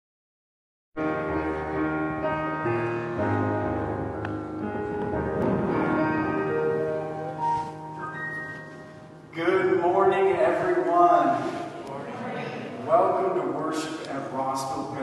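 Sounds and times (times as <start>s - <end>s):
keyboard playing slow chords: 1.0s - 13.3s.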